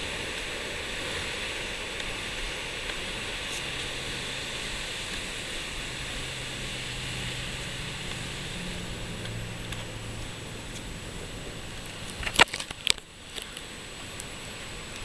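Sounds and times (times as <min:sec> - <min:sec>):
distant ocean surf: 0:00.0 - 0:15.0.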